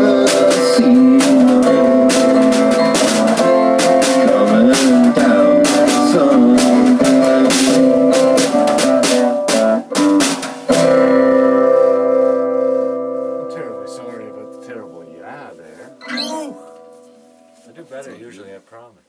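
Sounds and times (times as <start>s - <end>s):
acoustic guitar strummed hard: 0.0s - 18.0s.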